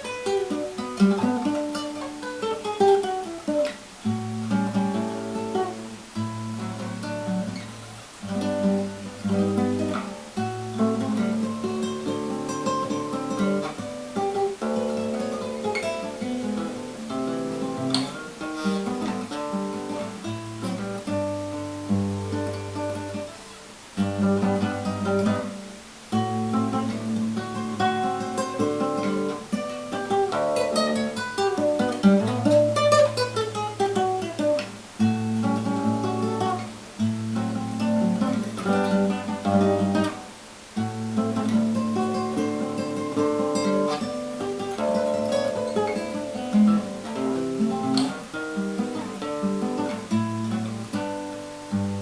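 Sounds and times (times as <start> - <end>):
solo acoustic guitar: 0.0 - 52.0.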